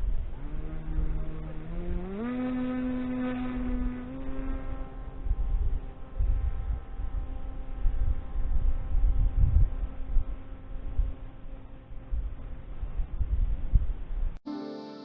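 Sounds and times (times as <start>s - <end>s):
electric motor and propeller whining: 0.0s - 13.2s
wind rumble on microphone: 0.0s - 14.4s.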